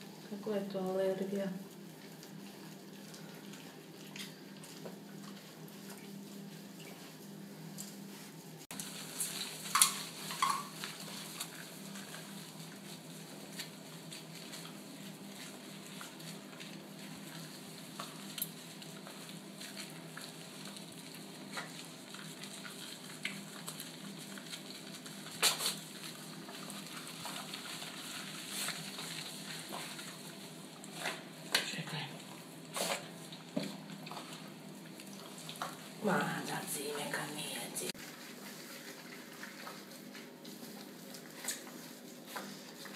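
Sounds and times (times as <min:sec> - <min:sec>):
wet fur lathering and squishing: 0:00.1 - 0:42.9.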